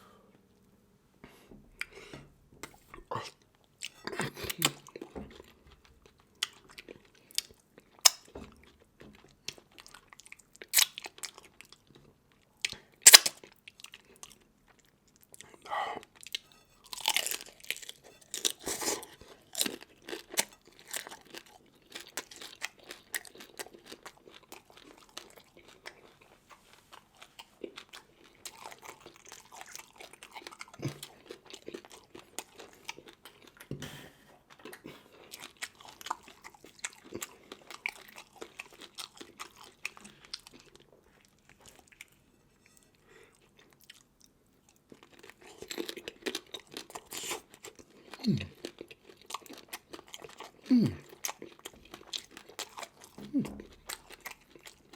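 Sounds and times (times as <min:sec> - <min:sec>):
person chewing and crunching: 0:02.6 - 0:33.7, 0:34.4 - 0:54.9.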